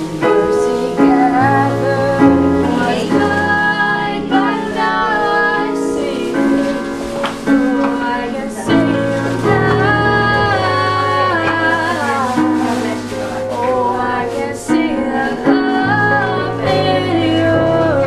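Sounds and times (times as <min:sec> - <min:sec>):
digital piano chords: 0:00.0 - 0:18.0
girl singing: 0:00.0 - 0:18.0.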